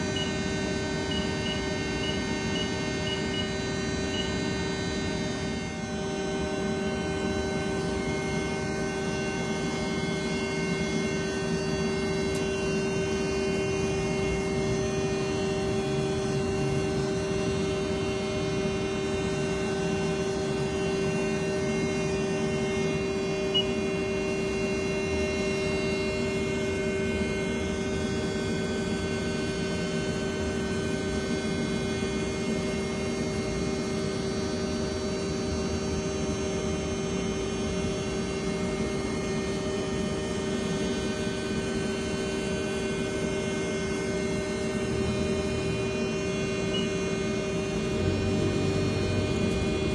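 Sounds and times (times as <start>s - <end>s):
lathe humming and whining: 0.0s - 49.9s.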